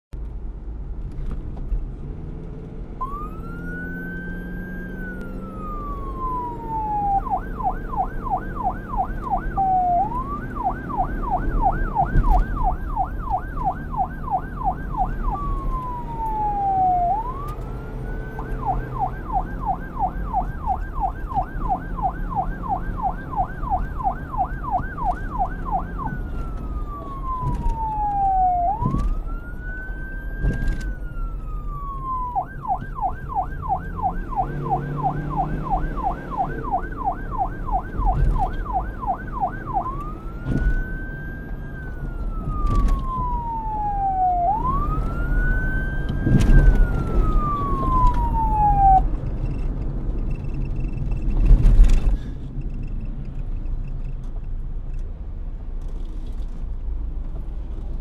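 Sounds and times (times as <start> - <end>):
police siren wailing and yelping: 3.0 - 49.9.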